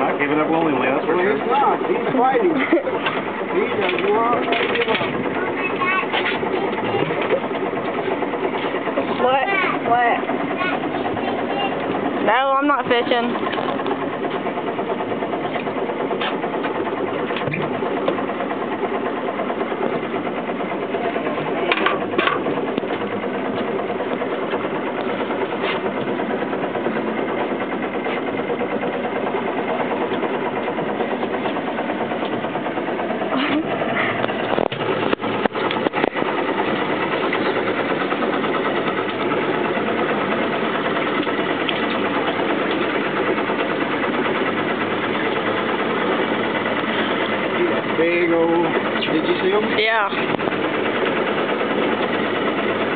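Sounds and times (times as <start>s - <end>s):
boat engine running: 0.0s - 52.9s.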